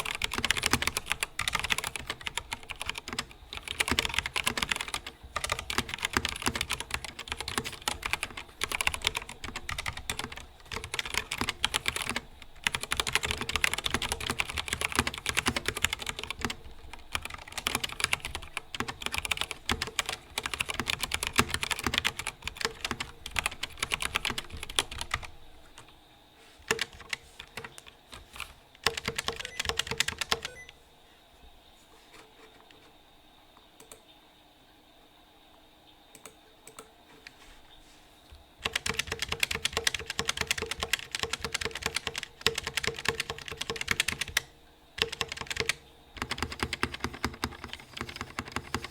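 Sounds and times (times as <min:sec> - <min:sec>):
mechanical keyboard typing: 0:00.0 - 0:25.9, 0:26.7 - 0:30.7, 0:38.6 - 0:48.9.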